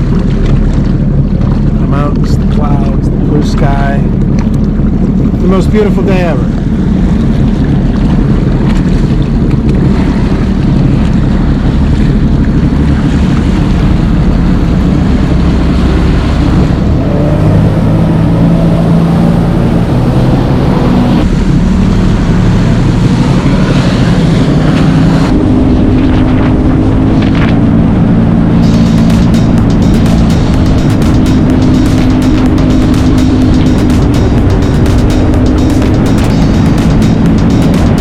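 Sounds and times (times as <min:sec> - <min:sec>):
hull slapping water: 0:00.0 - 0:38.0
jet ski engine droning: 0:00.0 - 0:38.0
wind buffeting microphone: 0:00.0 - 0:38.0.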